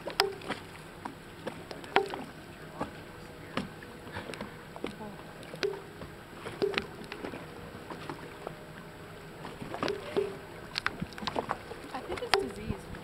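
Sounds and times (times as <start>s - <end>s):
faint steady hum: 0.0s - 13.0s
waves slapping boat hull: 0.0s - 13.0s.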